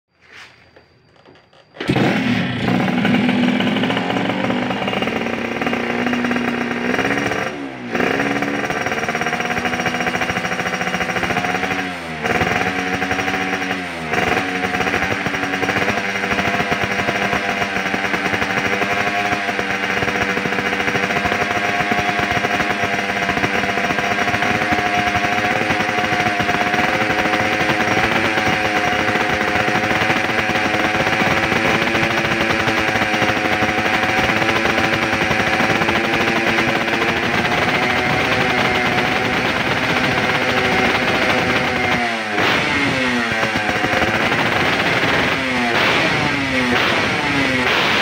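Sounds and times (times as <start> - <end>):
two-stroke motorcycle engine: 1.1 - 48.0.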